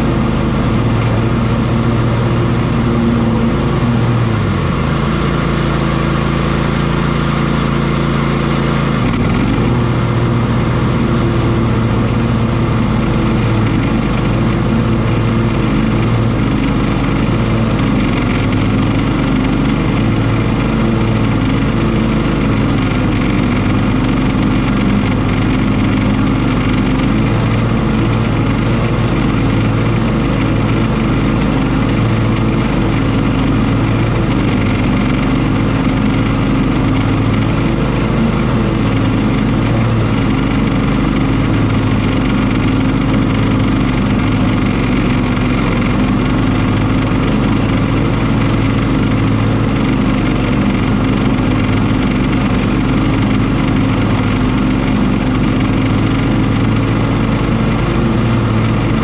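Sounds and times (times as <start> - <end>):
riding lawn mower engine: 0.0 - 59.0.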